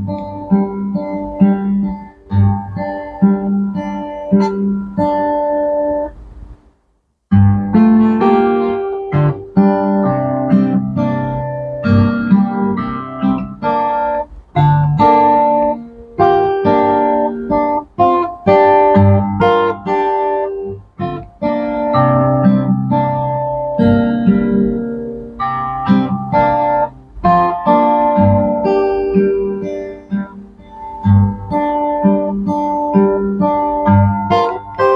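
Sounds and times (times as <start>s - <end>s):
solo guitar playing slowly: 0.0s - 6.6s, 7.3s - 34.9s.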